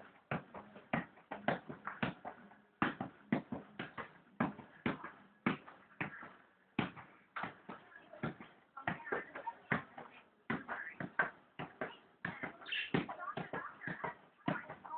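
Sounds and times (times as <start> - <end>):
ball juggling taps: 0.3 - 14.8.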